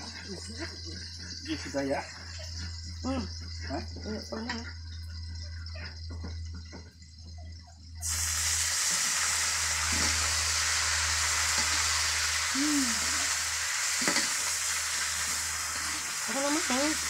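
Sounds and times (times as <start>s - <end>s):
greens sizzling in hot oil: 0.0s - 6.9s, 8.0s - 17.0s.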